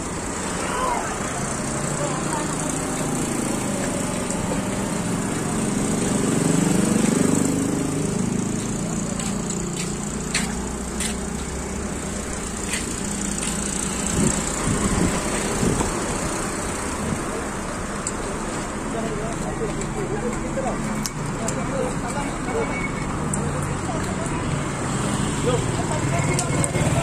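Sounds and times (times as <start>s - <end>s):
road traffic and engine noise: 0.0s - 27.0s.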